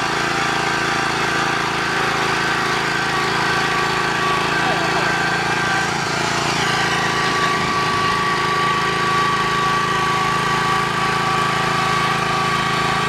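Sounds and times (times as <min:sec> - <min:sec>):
earth auger engine whining: 0:00.0 - 0:13.0.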